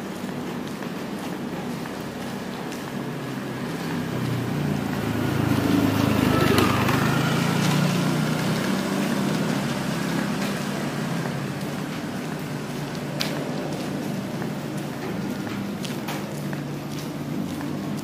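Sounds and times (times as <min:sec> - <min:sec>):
motor scooter passing: 0:02.9 - 0:18.0.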